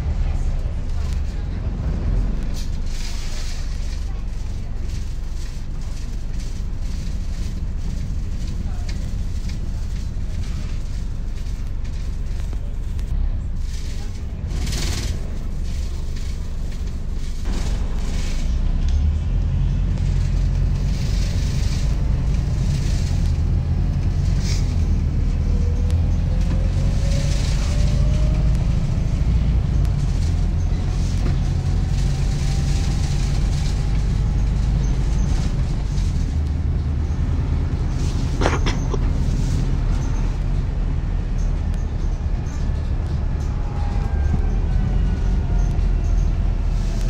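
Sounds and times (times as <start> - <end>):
diesel engine drone: 0.0 - 47.0.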